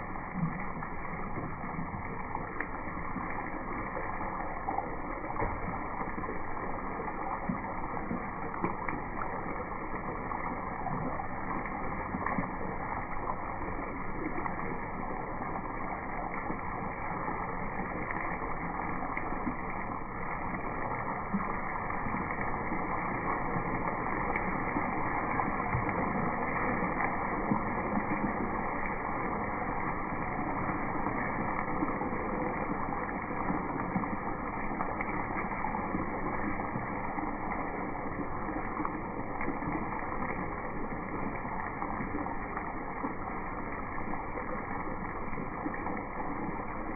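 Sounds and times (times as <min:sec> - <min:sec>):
food sizzling in hot oil: 0:00.0 - 0:46.9
oil crackling and popping: 0:00.0 - 0:46.9.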